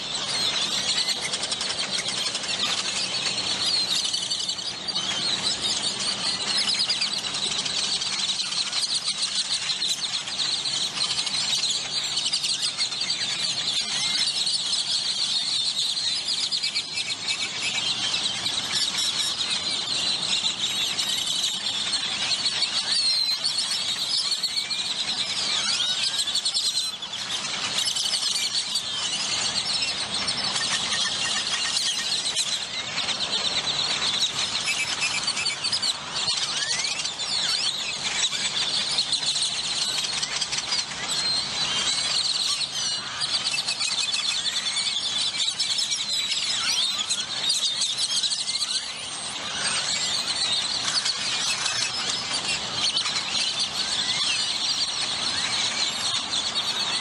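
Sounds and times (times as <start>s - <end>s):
flock of grackles calling: 0.0s - 57.0s.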